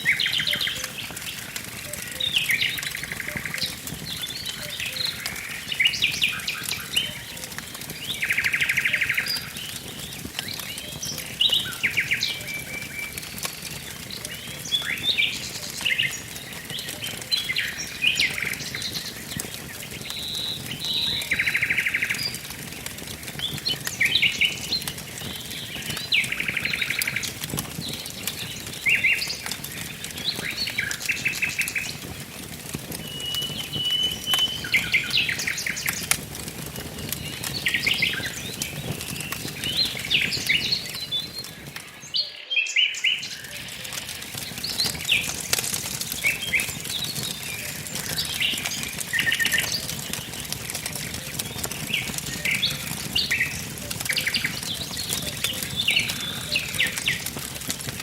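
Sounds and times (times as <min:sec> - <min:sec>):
wood fire crackling: 0:00.0 - 0:42.2, 0:43.0 - 0:58.0
birds singing: 0:00.0 - 0:58.0.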